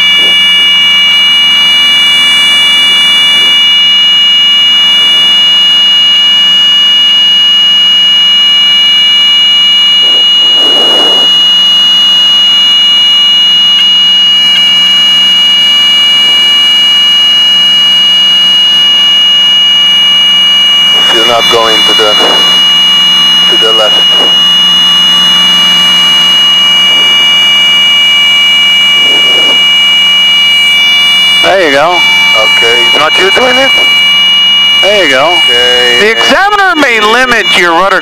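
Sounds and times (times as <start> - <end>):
high-pitched tone: 0.0 - 38.0.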